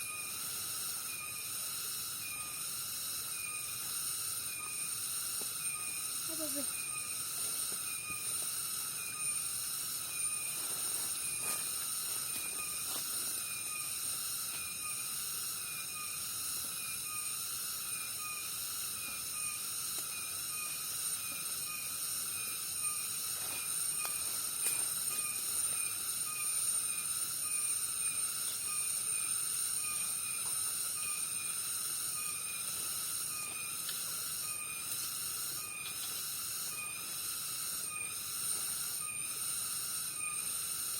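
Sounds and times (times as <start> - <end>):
insect chirping call: 0.0 - 40.9
insects buzzing drone: 0.0 - 40.9.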